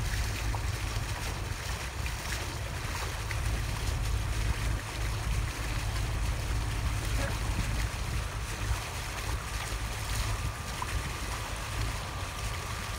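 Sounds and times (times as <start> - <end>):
boat engine low rumble: 0.0 - 12.9.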